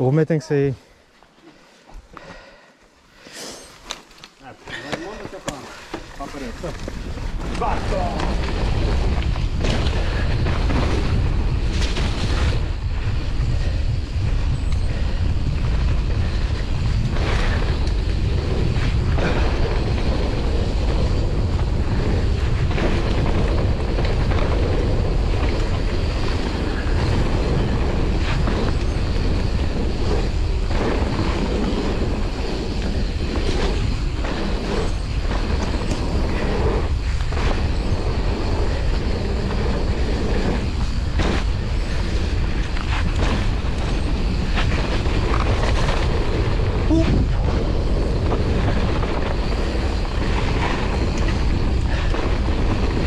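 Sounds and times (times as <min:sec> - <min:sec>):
bike tyre noise: 0:00.9 - 0:53.0
wind buffeting microphone: 0:04.7 - 0:53.0.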